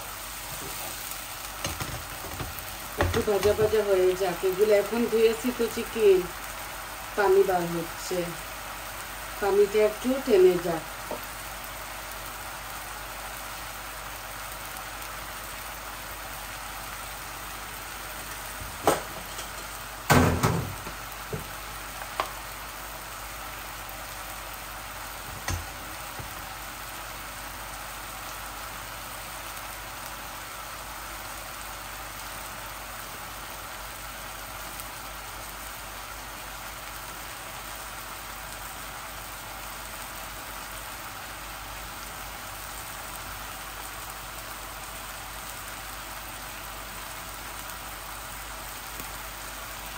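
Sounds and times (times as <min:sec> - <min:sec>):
chicken sizzling in a pan: 0:00.0 - 0:49.9.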